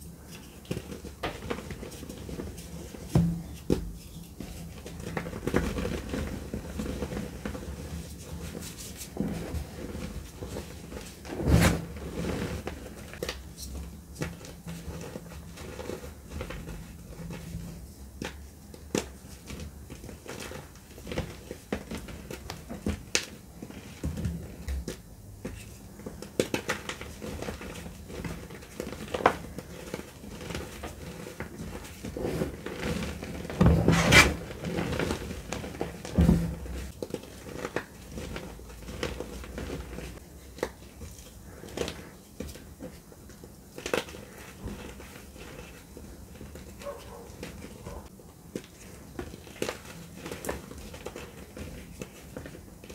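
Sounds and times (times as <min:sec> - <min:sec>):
hands crumbling dry chalk: 0:00.0 - 0:11.6, 0:12.2 - 0:52.9.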